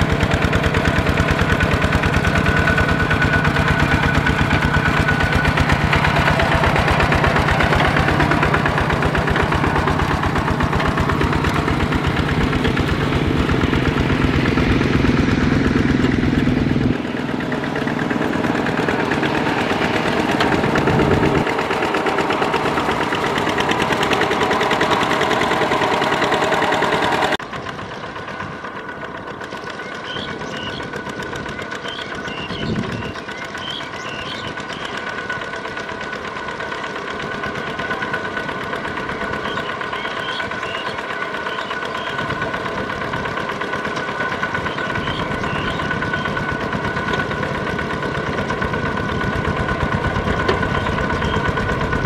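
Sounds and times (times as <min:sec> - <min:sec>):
diesel engine chugging: 0:00.0 - 0:52.0
wheels churning water: 0:00.0 - 0:52.0.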